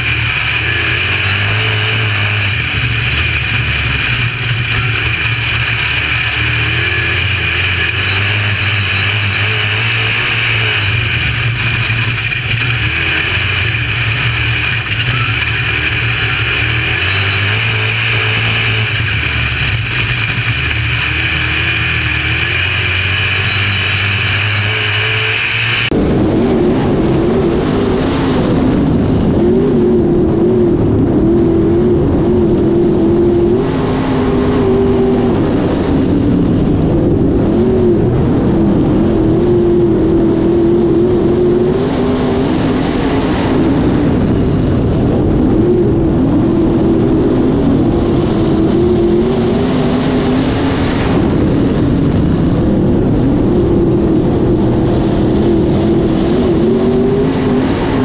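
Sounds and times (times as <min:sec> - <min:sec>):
race car engine running: 0:00.0 - 0:58.0.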